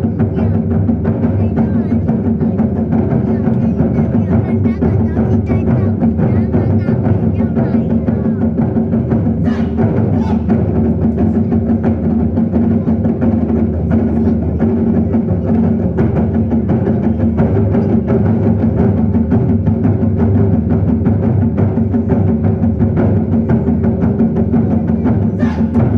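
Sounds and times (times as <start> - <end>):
drum ensemble playing large drums: 0.0 - 25.9.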